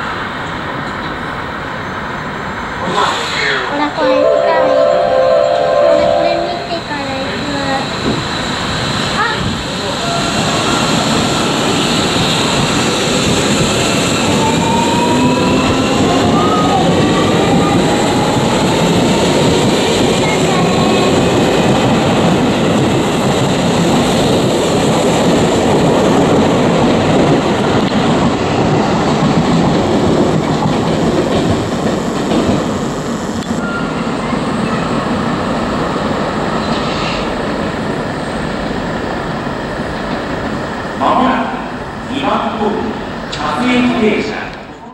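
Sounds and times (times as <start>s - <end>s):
electric train passing at speed: 0.0s - 44.9s.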